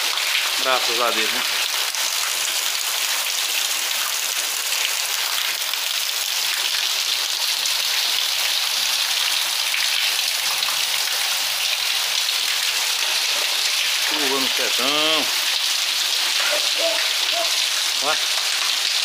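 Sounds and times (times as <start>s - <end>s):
heavy rain on a roof: 0.0s - 19.0s
water pouring from gutter spout: 0.0s - 19.0s.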